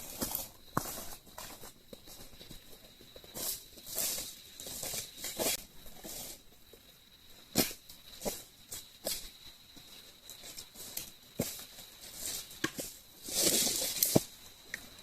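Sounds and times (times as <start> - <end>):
faint high whine: 0.0 - 15.0
objects rustling and scuffing: 0.0 - 15.0.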